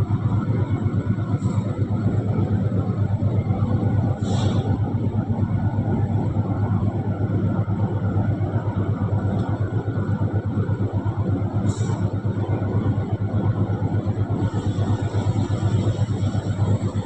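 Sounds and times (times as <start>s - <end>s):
heavy mill rumbling: 0.0s - 17.0s.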